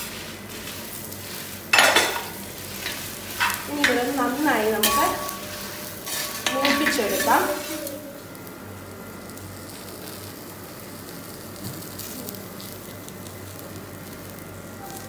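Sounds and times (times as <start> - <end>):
spices sizzling in oil: 0.0 - 15.0
steady low hum: 0.0 - 15.0
faint crackles: 2.6 - 15.0.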